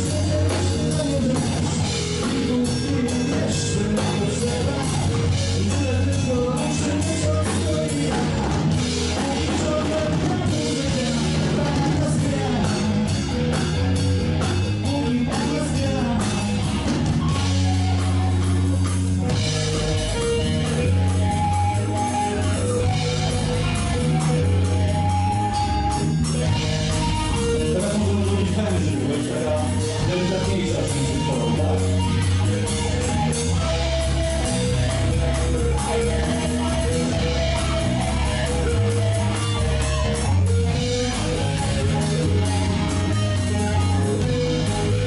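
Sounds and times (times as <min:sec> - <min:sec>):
blues-rock band playing live: 0:00.0 - 0:45.0
electric guitar: 0:00.0 - 0:45.0.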